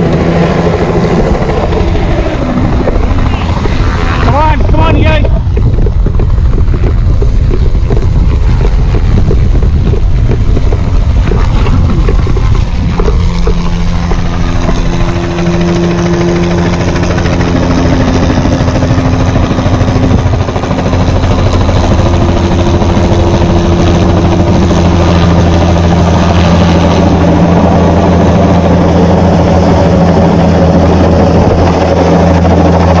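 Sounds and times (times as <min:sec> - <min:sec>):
helicopter rotor and engine: 0:00.0 - 0:33.0.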